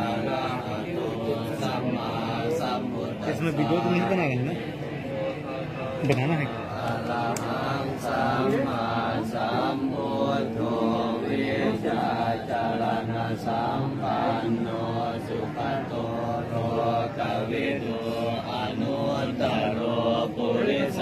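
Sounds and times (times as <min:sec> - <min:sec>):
monks chanting in unison: 0:00.0 - 0:21.0.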